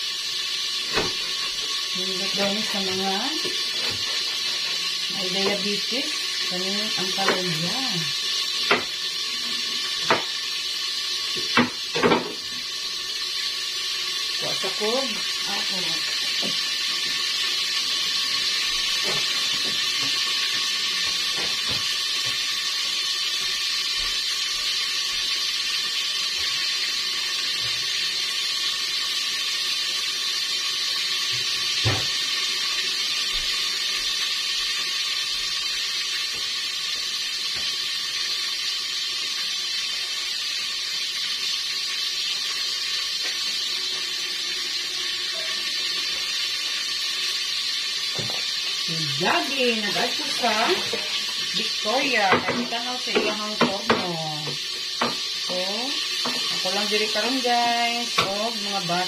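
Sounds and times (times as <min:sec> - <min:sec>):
food sizzling in oil: 0:00.0 - 0:59.0.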